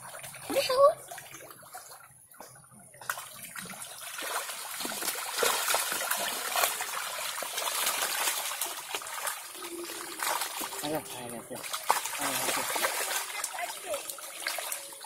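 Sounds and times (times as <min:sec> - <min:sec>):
fish thrashing and splashing: 0:00.0 - 0:15.0.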